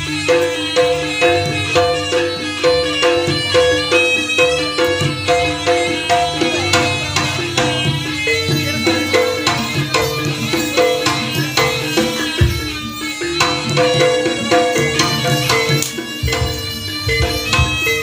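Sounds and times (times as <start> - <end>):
hand drums and tuned percussion: 0.0 - 18.0.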